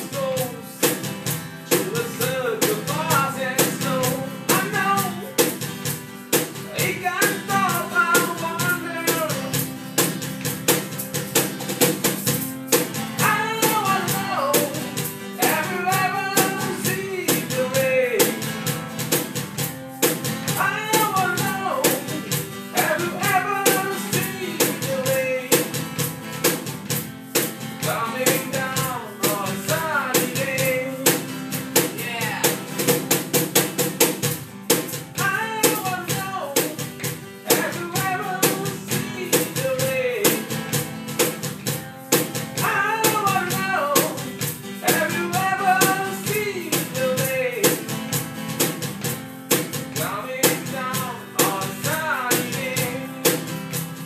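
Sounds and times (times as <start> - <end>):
rock band music: 0.0 - 47.2.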